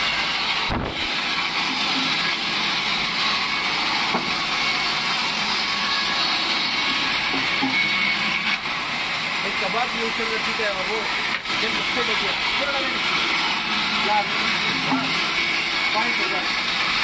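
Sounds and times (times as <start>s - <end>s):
band saw ripping wood: 0.0s - 17.0s.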